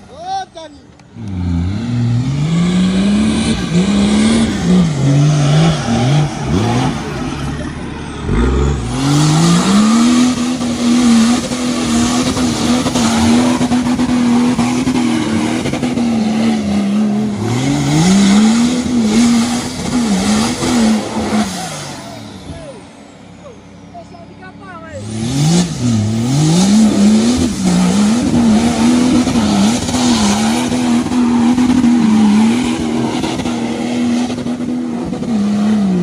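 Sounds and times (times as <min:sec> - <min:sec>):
engine revving hard: 0:01.2 - 0:22.3, 0:25.0 - 0:36.0.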